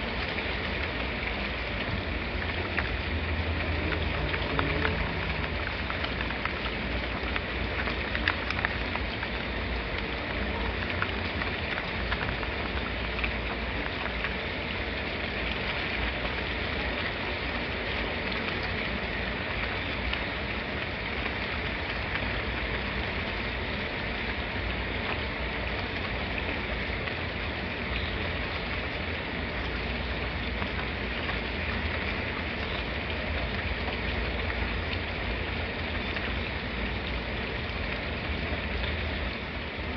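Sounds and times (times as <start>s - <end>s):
raindrop ticks: 0.0s - 39.9s
steady rain hiss: 0.0s - 39.9s.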